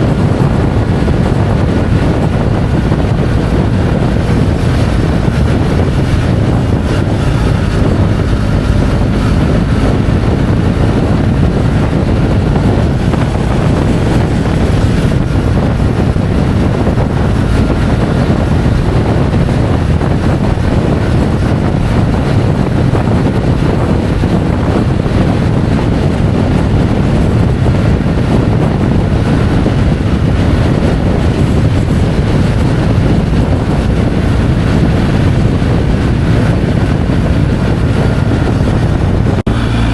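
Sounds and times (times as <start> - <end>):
motorcycle engine humming: 0.0 - 39.9
wind rush on microphone: 0.0 - 39.9.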